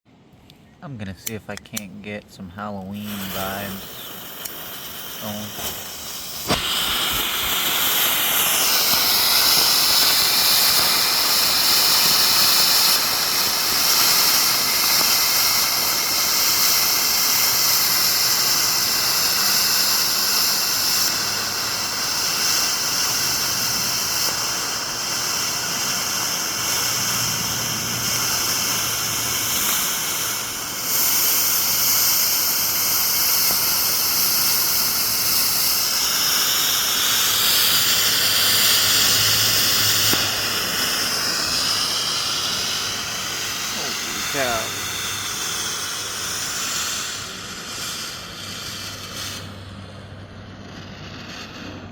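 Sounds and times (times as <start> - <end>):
smoke fireworks hissing: 0.9 - 51.9.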